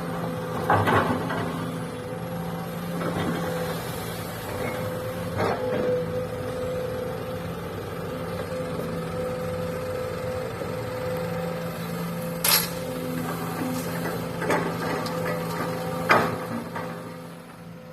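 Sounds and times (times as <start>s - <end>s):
diesel engines running: 0.0s - 17.9s.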